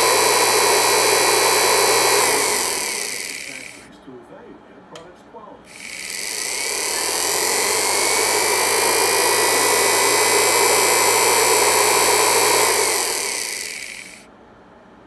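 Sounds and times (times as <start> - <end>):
electric motor whining: 0.0 - 3.9, 5.7 - 14.2.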